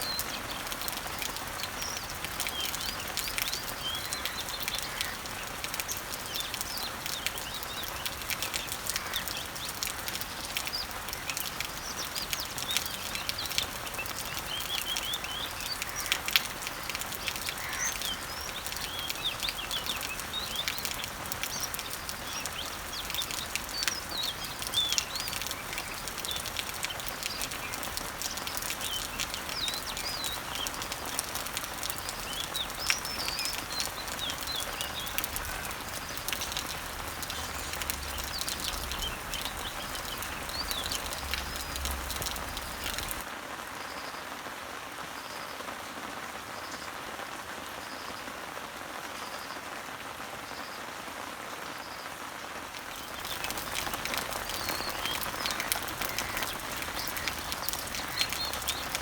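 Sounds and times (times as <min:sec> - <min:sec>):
bird chirps and calls: 0:00.0 - 0:43.3, 0:53.0 - 0:59.0
rain falling on leaves: 0:00.0 - 0:59.0.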